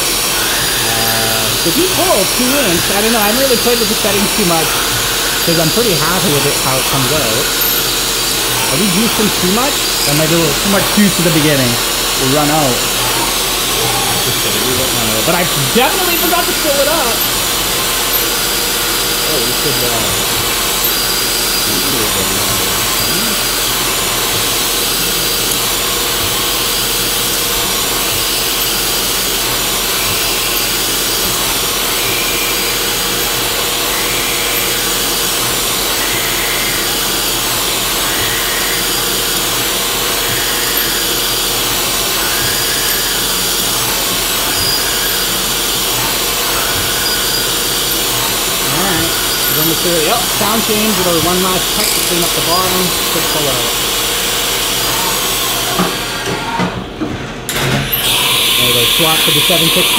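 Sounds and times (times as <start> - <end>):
milling machine cutting metal: 0.0 - 59.9.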